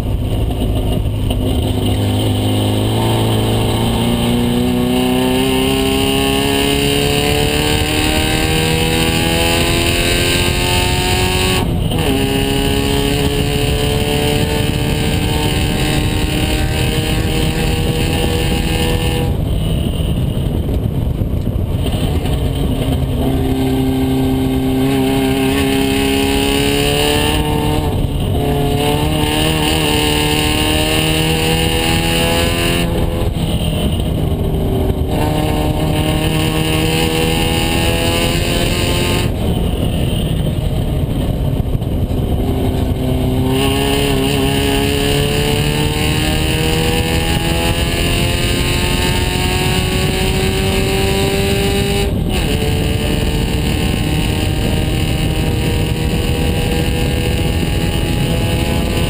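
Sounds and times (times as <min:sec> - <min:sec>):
race car engine accelerating: 0:00.0 - 0:20.1, 0:21.7 - 0:59.0.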